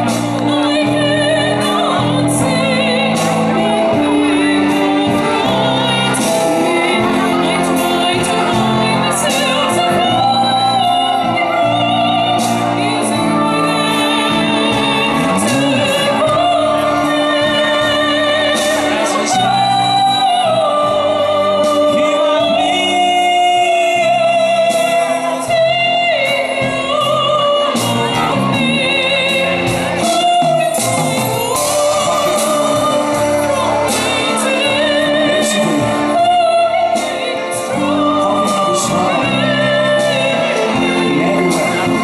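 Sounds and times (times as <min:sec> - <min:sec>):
symphony orchestra with strings: 0:00.0 - 0:42.0
woman singing operatic melody: 0:00.0 - 0:42.0.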